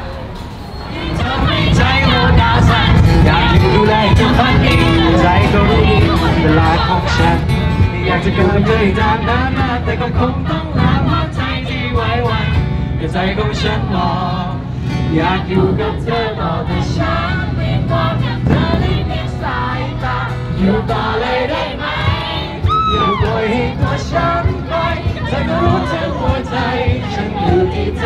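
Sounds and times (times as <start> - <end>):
acoustic guitar: 0.0 - 28.0
crowd singing along: 0.0 - 28.0.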